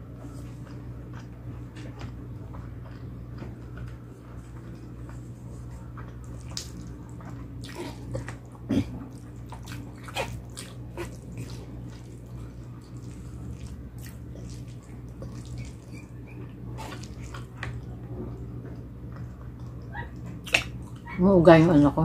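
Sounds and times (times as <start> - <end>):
low steady hum: 0.0 - 22.0
wet chewing and smacking: 0.2 - 21.2.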